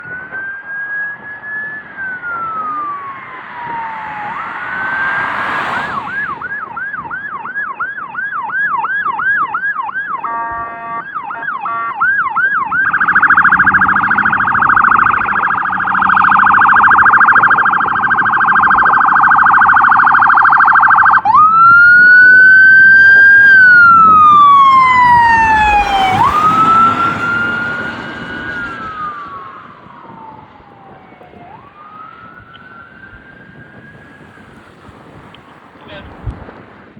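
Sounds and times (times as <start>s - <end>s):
electronic sirens wailing and yelping: 0.0s - 34.8s.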